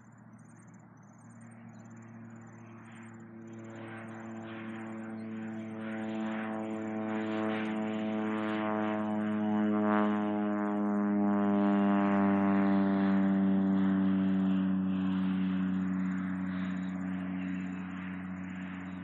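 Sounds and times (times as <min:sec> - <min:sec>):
plane engine and propeller humming: 0:00.0 - 0:19.0.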